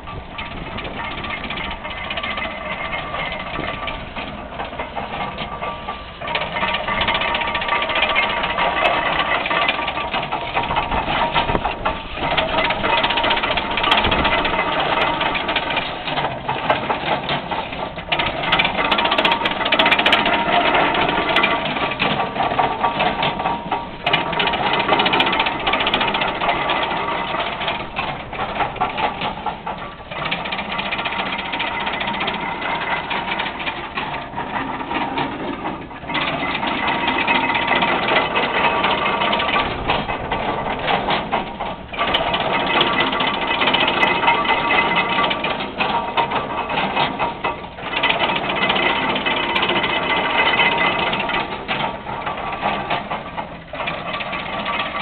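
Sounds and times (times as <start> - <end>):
hay press gears clattering: 0.0 - 55.0.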